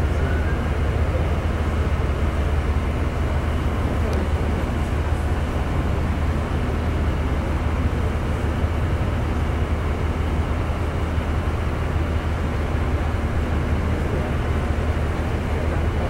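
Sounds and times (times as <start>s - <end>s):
ship diesel engine humming: 0.0s - 16.0s.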